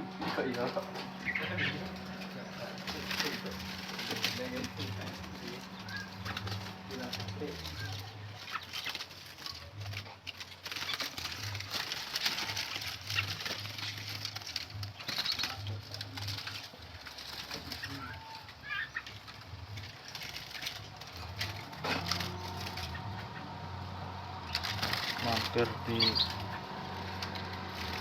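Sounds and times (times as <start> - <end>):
pulsing low hum: 0.0 - 12.0, 12.6 - 28.0
birds chirping: 0.0 - 28.0
wings rustling and cage clicks: 0.0 - 28.0.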